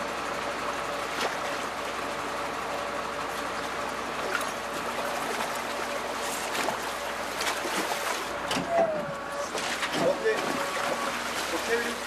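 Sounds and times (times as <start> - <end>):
water sloshing and splashing: 0.8 - 2.4, 3.0 - 12.0.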